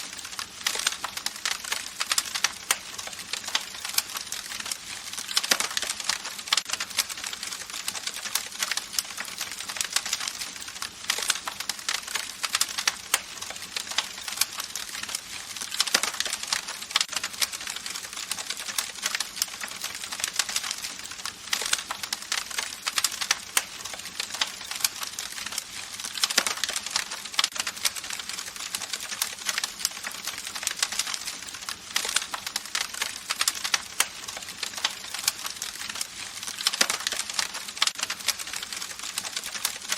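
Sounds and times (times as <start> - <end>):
campfire crackling: 0.0 - 39.9
steady hiss of fire: 0.0 - 39.9.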